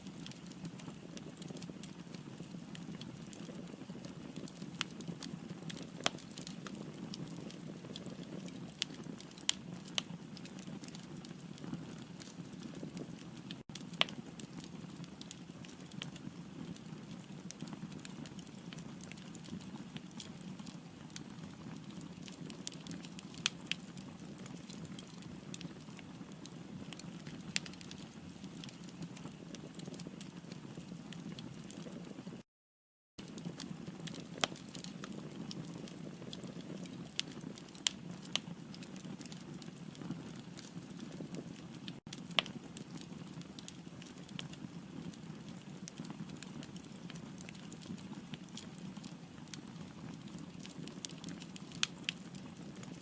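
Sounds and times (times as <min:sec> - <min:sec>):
fire burning: 0:00.0 - 0:32.4, 0:33.2 - 0:53.0
firewood crackling and popping: 0:00.0 - 0:32.4, 0:33.2 - 0:53.0.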